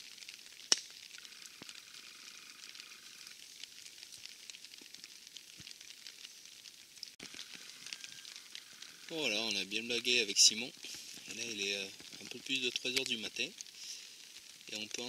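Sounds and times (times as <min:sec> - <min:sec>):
light rain pattering: 0:00.0 - 0:15.0.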